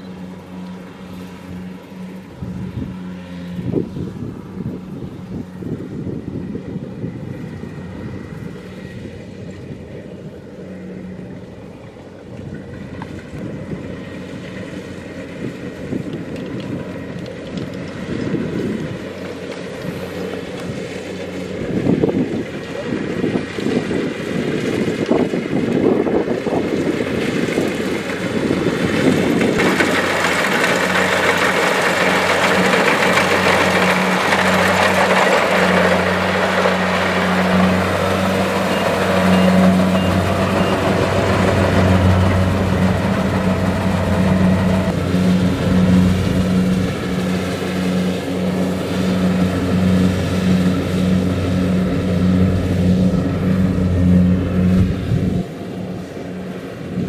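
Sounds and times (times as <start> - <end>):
combine harvester engine drone: 0.0 - 57.0
machinery noise: 0.0 - 57.0.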